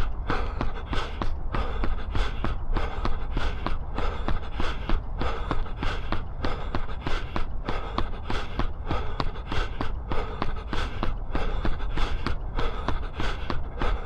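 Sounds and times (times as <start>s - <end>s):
hard breathing: 0.0s - 14.0s
low rumble: 0.0s - 14.0s
running footsteps on pavement: 0.0s - 14.0s.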